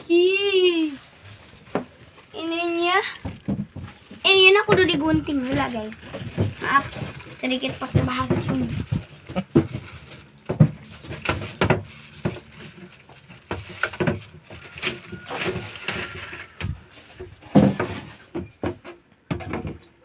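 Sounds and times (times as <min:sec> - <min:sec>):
packaging rustling and scraping: 0:00.3 - 0:18.6
packaging knocks and thumps: 0:01.2 - 0:20.0.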